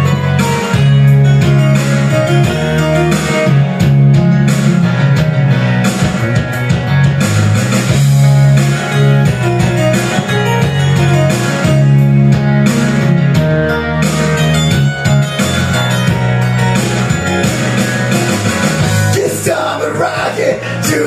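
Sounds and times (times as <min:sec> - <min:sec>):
rock backing music: 0:00.0 - 0:21.0.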